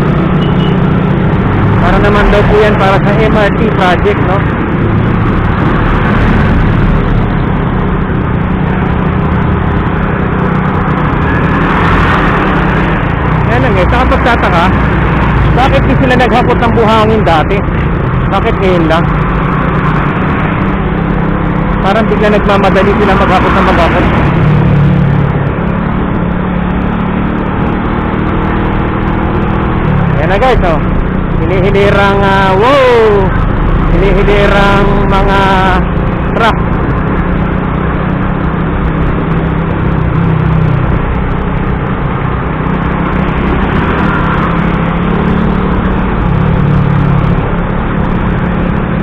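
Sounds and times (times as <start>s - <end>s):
low drone of trucks: 0.0s - 49.0s
motorcycle engine running: 0.0s - 49.0s
surrounding vehicle engines: 0.0s - 49.0s
wind and road noise: 0.0s - 49.0s.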